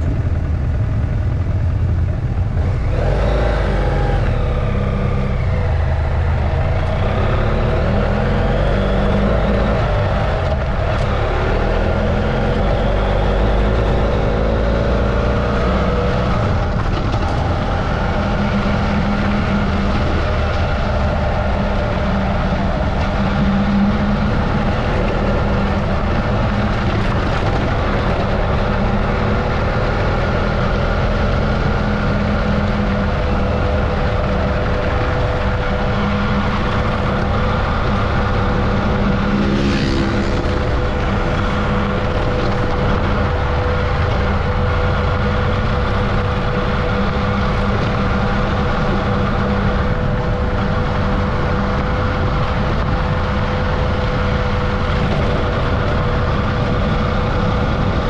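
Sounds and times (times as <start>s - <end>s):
motorcycle engine cruising: 0.0s - 58.0s
wind noise rumble: 0.0s - 58.0s.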